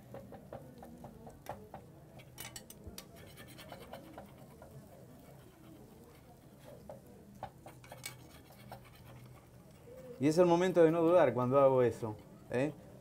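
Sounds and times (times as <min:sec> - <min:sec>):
metal spoon scraping in a pan: 0:02.1 - 0:13.0.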